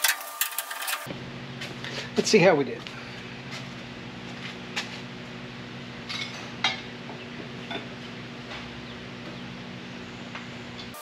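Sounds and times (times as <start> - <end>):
steady low hum: 1.1 - 11.0.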